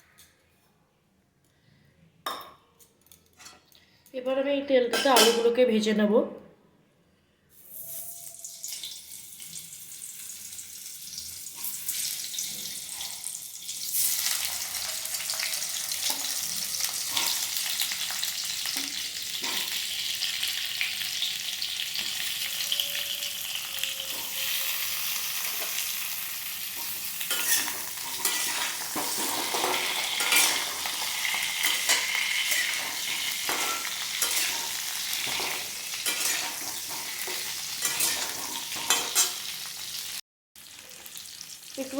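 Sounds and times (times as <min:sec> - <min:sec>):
potatoes sizzling in oil: 0:07.6 - 0:41.9.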